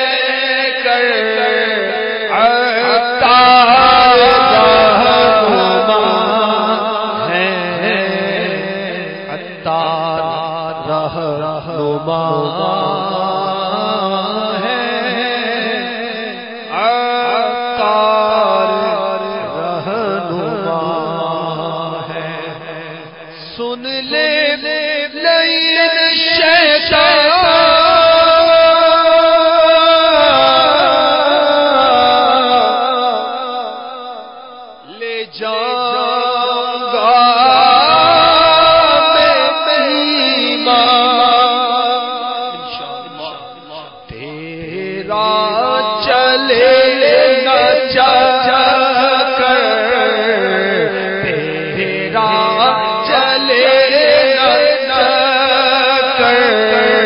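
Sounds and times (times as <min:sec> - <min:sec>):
man chanting: 0:00.0 - 0:57.0.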